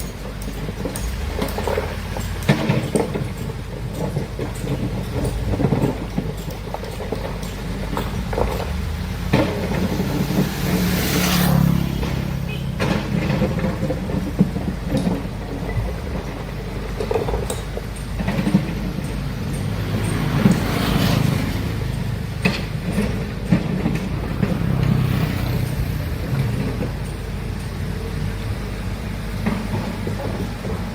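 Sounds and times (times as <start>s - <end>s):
digging knocks and clanks: 0.0s - 30.9s
excavator diesel engine: 0.0s - 30.9s.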